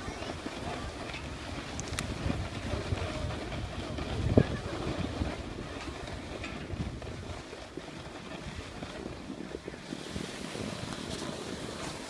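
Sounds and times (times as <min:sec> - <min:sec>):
snowboard sliding over snow: 0:00.0 - 0:12.0
wind buffeting microphone: 0:00.0 - 0:12.0.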